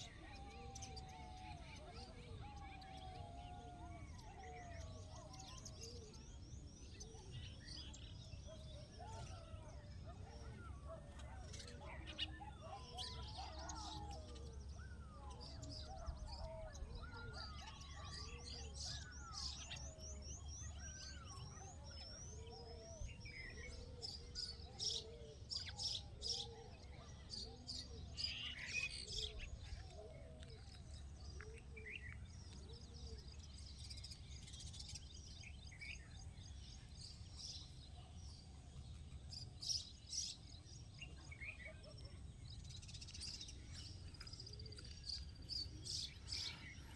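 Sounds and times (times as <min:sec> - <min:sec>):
birds calling and chirping: 0:00.0 - 0:46.9.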